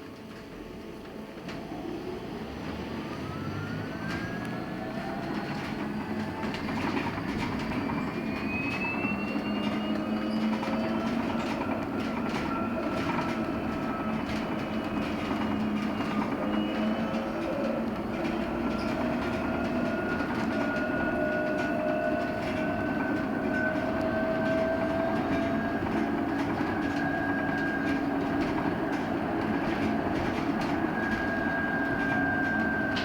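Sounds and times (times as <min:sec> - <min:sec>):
electric bus motor whining: 0:00.1 - 0:33.0.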